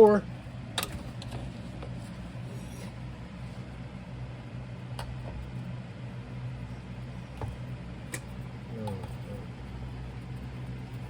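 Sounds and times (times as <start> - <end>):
furnace humming: 0.0 - 11.0.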